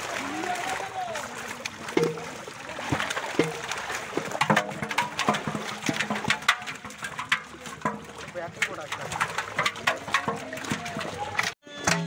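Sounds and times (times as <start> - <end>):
fish splashing in water: 0.0 - 12.0.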